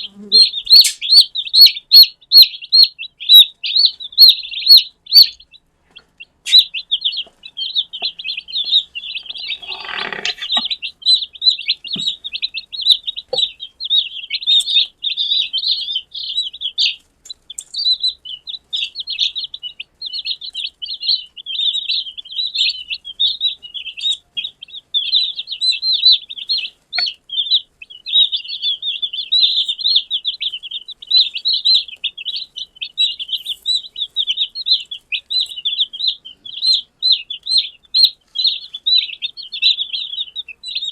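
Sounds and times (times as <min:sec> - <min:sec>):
chicks peeping: 0:00.0 - 0:40.9
lower fuller bird call: 0:06.2 - 0:40.9.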